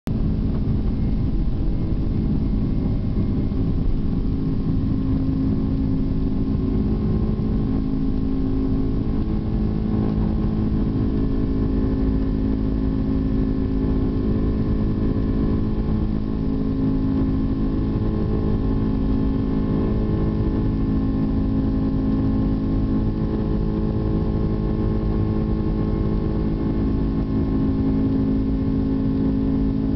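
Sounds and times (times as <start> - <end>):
jet engines drone in cabin: 0.1 - 29.9.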